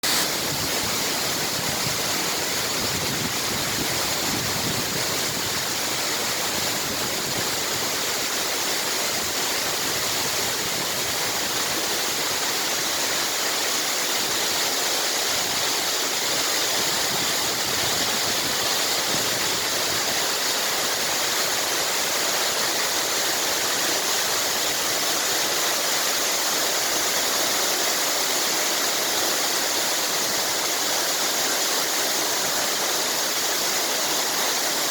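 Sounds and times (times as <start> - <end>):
waterfall pouring: 0.0 - 34.9.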